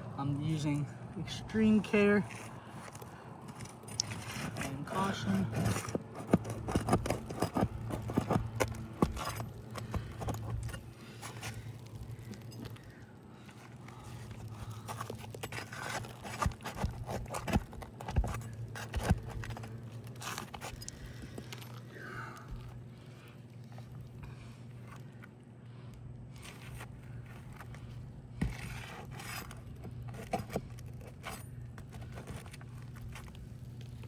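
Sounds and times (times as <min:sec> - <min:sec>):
tools scraping under shingles: 0:01.6 - 0:21.9, 0:26.3 - 0:33.5.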